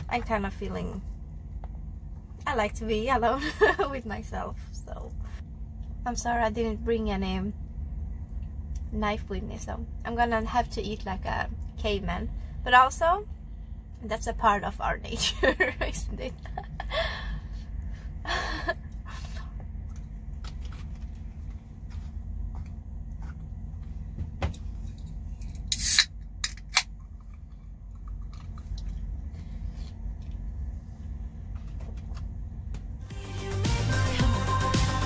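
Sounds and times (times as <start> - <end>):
low hum in truck cab: 0.0 - 35.0.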